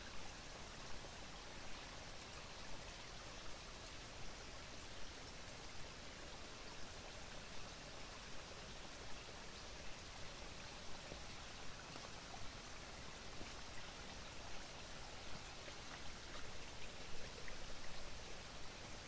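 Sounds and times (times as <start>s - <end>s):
stream running over stones: 0.0s - 19.0s.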